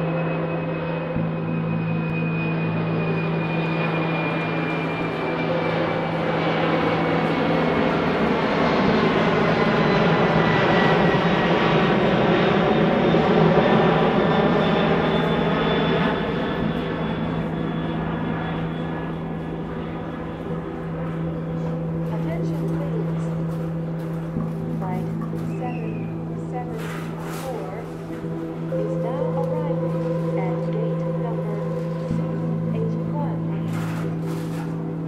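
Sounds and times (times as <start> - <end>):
jet airliner passing overhead: 0.0 - 35.0
thin whine dropping in pitch: 0.0 - 35.0.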